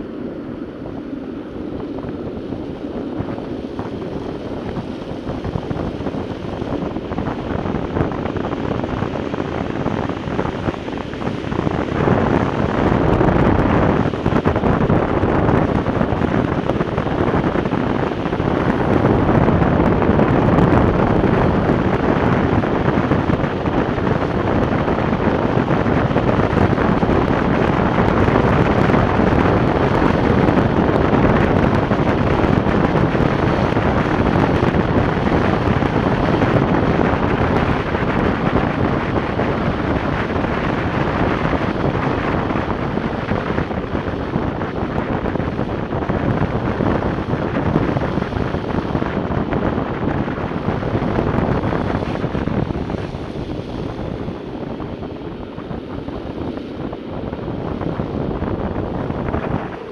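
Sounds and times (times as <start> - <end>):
wheels rolling on wet asphalt: 0.0 - 56.5
wind rushing over microphone: 0.0 - 59.9.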